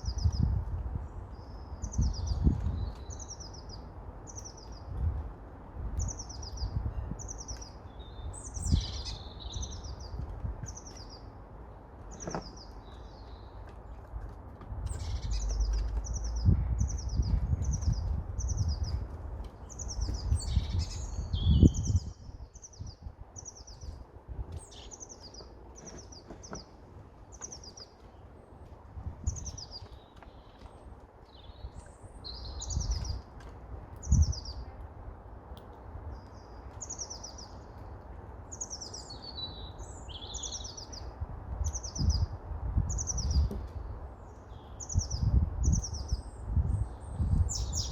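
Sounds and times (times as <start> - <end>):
songbird chirping: 0.0 - 5.1, 6.0 - 47.9.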